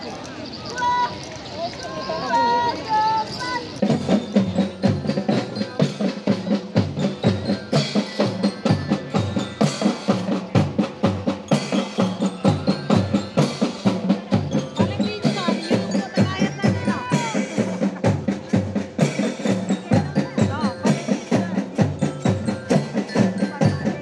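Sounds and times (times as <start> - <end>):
marching snare and bass drums: 3.4 - 24.0.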